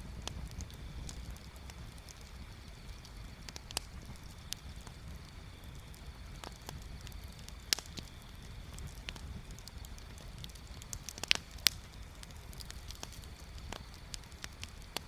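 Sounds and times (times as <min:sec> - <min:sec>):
bonfire crackling: 0:00.0 - 0:15.0
sharp fire pops and snaps: 0:00.0 - 0:15.0
steady low rumble: 0:00.0 - 0:15.0.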